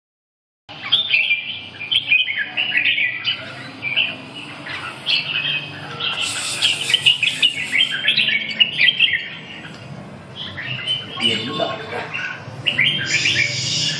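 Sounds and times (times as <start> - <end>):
bird chirping song: 0.7 - 13.9.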